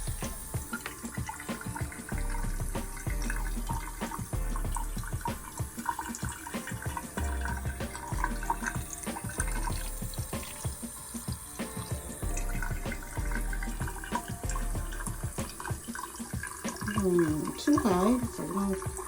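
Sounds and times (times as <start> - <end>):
tap water splashing into tank: 0.0 - 19.0.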